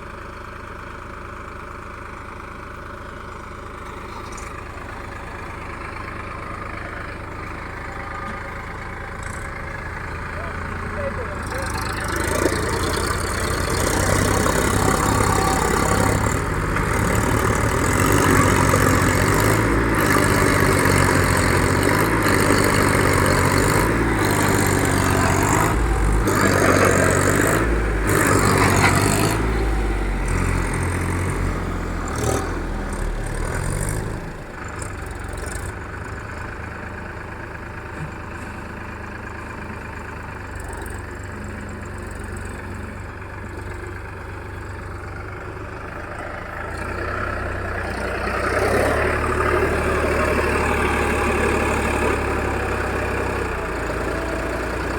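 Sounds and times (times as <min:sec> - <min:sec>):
tractor diesel engine revving: 0:00.0 - 0:54.9.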